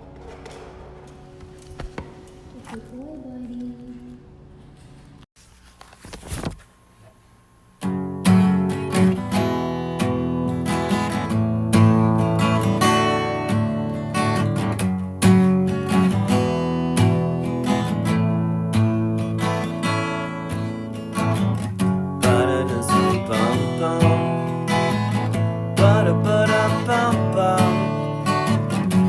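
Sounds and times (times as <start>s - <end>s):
acoustic guitar strumming: 0.0s - 2.7s, 7.8s - 29.0s.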